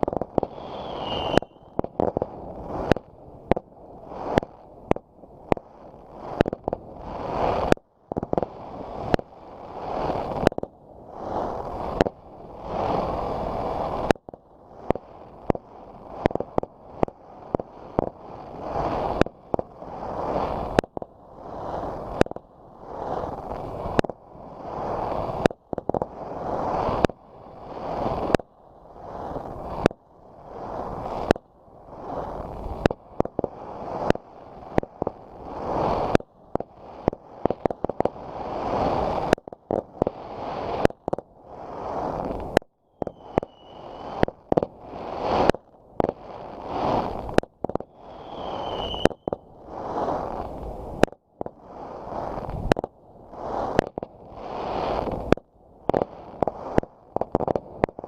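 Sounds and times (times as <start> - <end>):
fireworks banging: 0.0 - 10.7, 11.4 - 21.1, 32.0 - 58.0
fireworks rushing hiss: 0.0 - 58.0.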